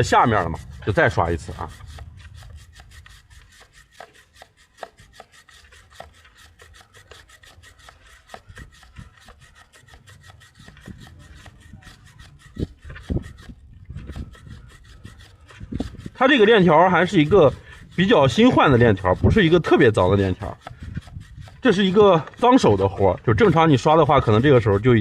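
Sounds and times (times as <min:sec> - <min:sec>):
brush scrubbing a drive chain: 0:00.0 - 0:25.0.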